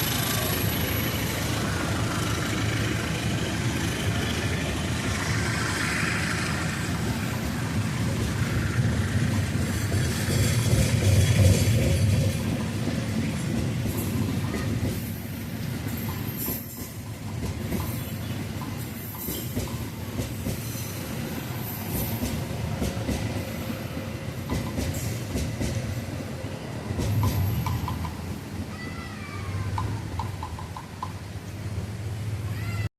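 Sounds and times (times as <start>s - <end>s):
wheels clacking over rail joints: 0.0s - 28.9s, 29.6s - 31.6s
train rumbling past: 0.0s - 32.9s.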